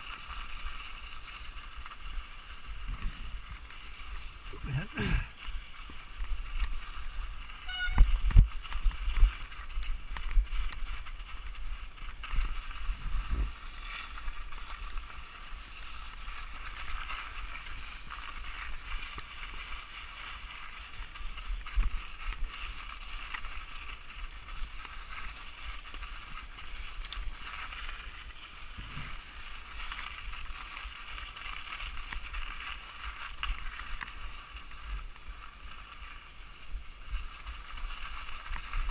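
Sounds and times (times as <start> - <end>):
bike tyres rolling and rattling: 0.0 - 38.9.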